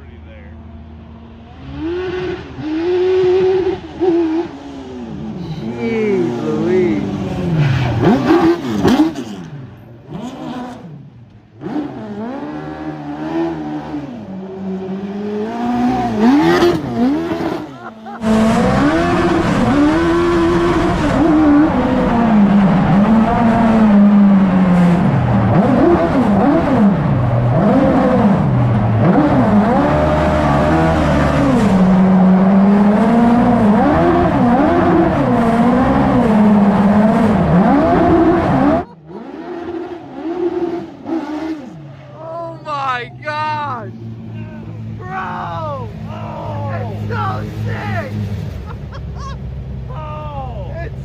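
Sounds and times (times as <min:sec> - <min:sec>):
motorcycle engines revving: 0:00.0 - 0:51.0.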